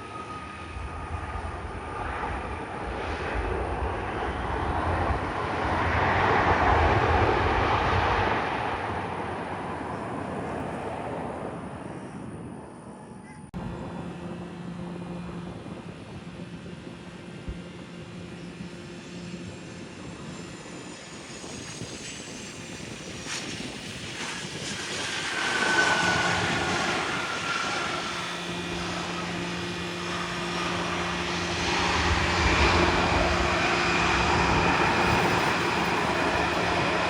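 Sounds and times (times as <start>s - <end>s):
engine hum with constant tones: 0.0s - 37.0s
jet passing by: 0.0s - 37.0s.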